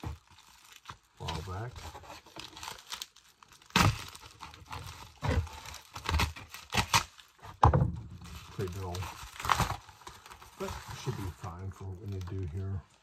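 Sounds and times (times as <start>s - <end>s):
plastic mailer crinkling and tearing: 0.0s - 7.4s, 8.1s - 13.0s.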